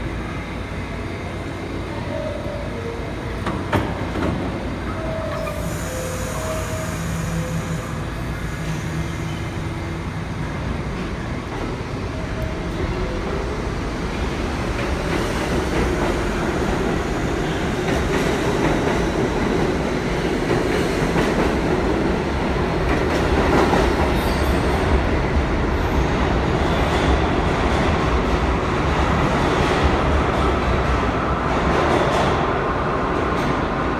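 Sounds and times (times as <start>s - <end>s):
subway train rumbling: 0.0s - 33.9s.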